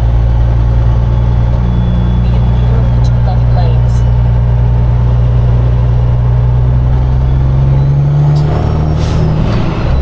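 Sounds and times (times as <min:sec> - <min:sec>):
diesel truck engine drone: 0:00.0 - 0:10.0.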